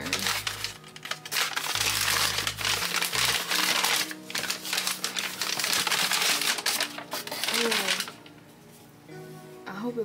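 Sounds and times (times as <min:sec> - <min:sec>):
wrapping paper crinkling: 0:00.0 - 0:09.0
background music: 0:00.0 - 0:10.0.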